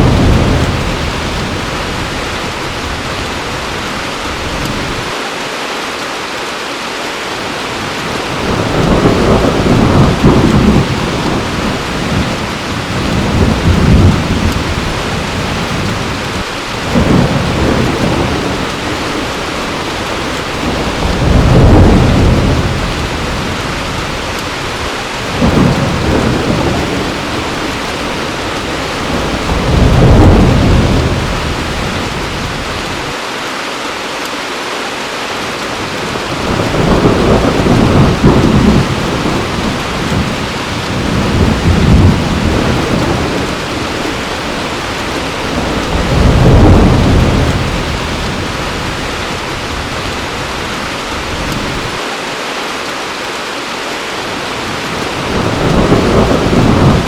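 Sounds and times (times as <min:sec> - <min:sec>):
thunder rolling low: 0:00.0 - 0:03.5, 0:08.0 - 0:33.1, 0:35.9 - 0:52.0, 0:54.9 - 0:57.0
heavy rain falling: 0:00.0 - 0:57.0.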